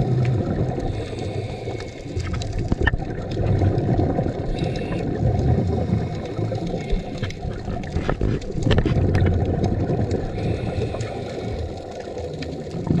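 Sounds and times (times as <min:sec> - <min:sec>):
clicks and crackles: 0:00.0 - 0:13.0
underwater rumble of moving water: 0:00.0 - 0:13.0.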